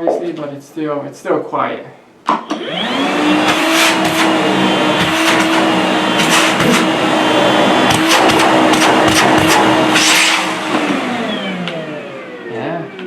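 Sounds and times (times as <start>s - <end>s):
vacuum motor whining and humming: 2.3s - 13.0s.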